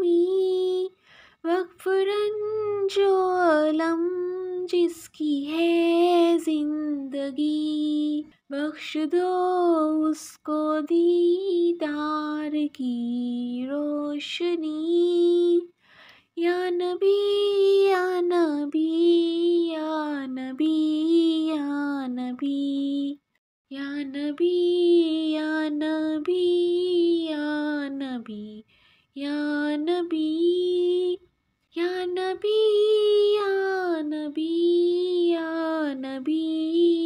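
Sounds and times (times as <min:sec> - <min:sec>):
woman singing unaccompanied: 0:00.0 - 0:37.0.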